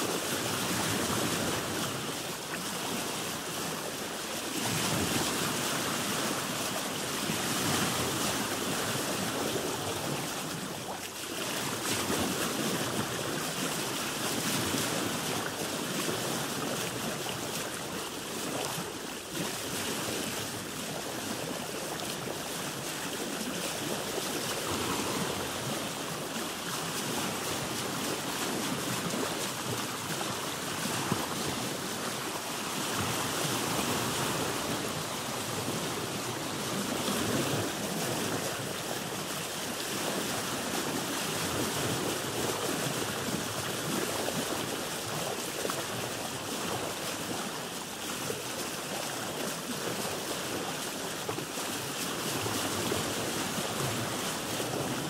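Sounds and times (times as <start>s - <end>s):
waves washing around a boat: 0.0s - 55.0s
wind: 0.0s - 55.0s.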